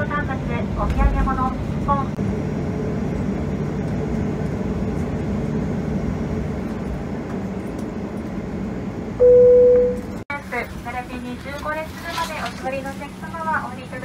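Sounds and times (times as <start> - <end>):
aircraft cabin noise: 0.0 - 14.0.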